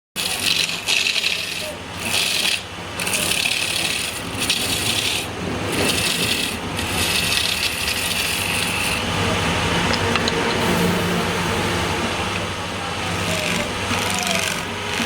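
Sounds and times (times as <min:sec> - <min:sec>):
lathe running: 0:00.2 - 0:15.0
lathe tool scraping wood: 0:00.2 - 0:15.0.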